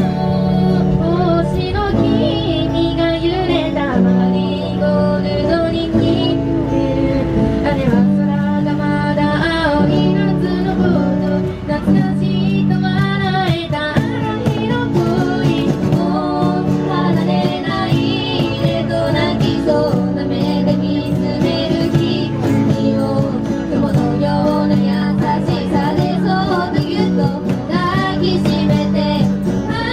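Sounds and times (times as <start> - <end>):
guitar accompaniment: 0.0 - 29.9
woman singing: 0.0 - 29.9.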